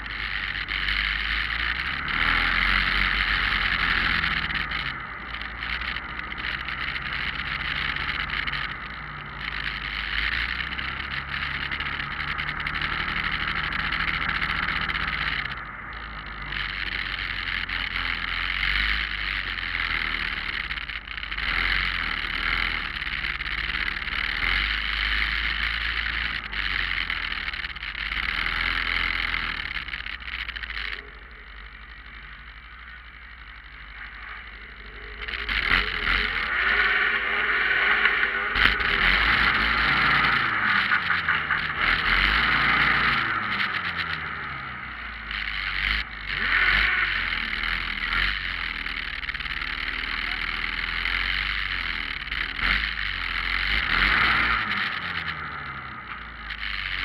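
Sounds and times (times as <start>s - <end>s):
motorcycle engines: 0.0s - 57.0s.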